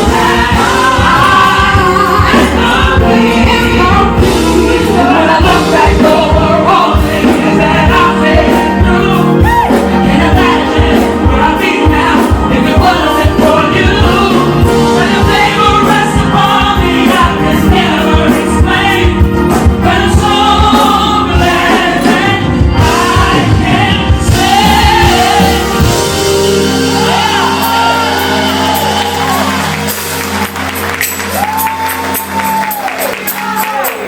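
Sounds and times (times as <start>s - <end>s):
group of singers: 0.0s - 33.3s
band with drums: 0.0s - 34.0s.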